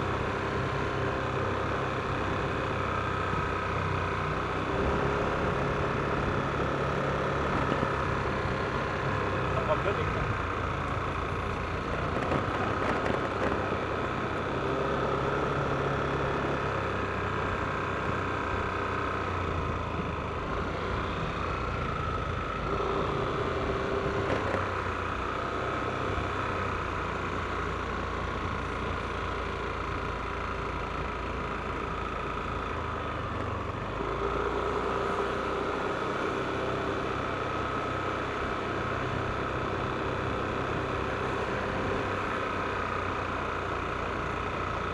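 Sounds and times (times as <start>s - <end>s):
road noise: 0.0s - 44.9s
scooter engine running: 0.0s - 44.9s.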